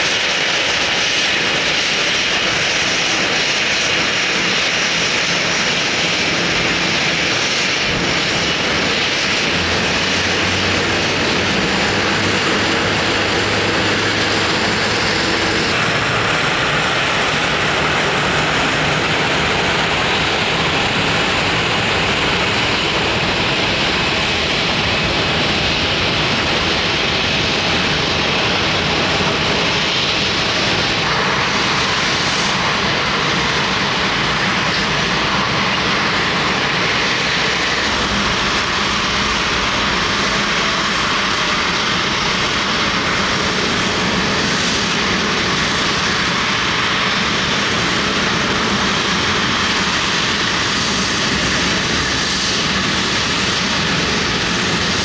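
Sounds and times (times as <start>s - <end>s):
airliner engines roaring: 0.0s - 55.0s.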